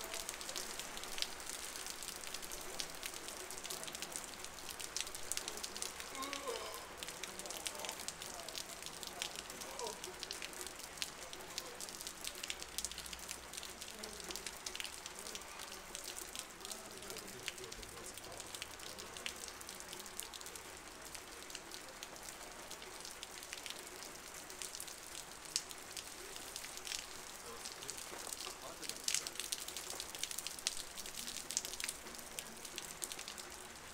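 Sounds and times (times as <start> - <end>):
heavy rain hissing: 0.0 - 33.9
raindrops splashing: 0.0 - 33.9.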